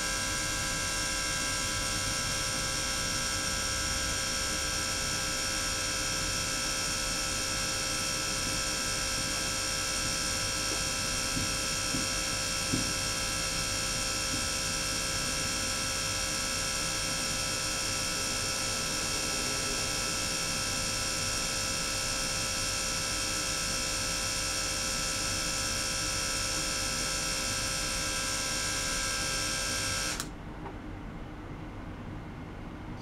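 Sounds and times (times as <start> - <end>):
gear pump mechanical whine: 0.0 - 30.4.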